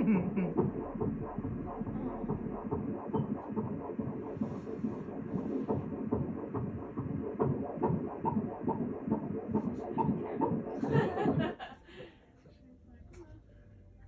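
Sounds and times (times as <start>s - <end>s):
fetal heartbeat on doppler speaker: 0.0s - 11.6s.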